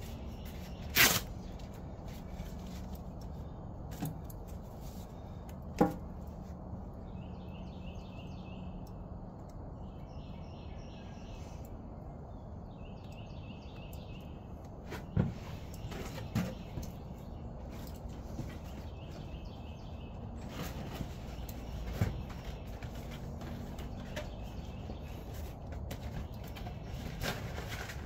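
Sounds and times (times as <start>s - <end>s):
birds chirping: 0.0s - 28.0s
steady low hum: 0.0s - 28.0s.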